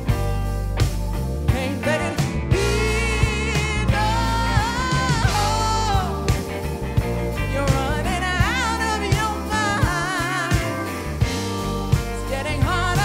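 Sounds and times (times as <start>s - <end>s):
live band playing: 0.0s - 13.0s
woman singing lead vocal: 1.5s - 11.4s, 12.0s - 13.0s.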